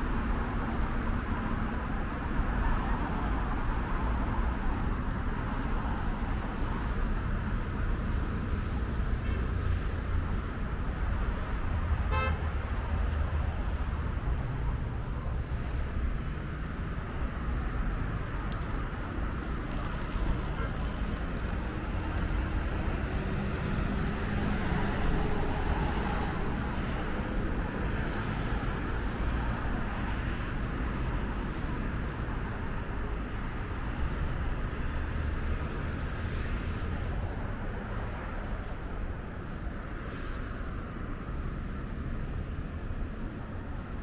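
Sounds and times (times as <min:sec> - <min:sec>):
cars driving past: 0:00.0 - 0:44.0.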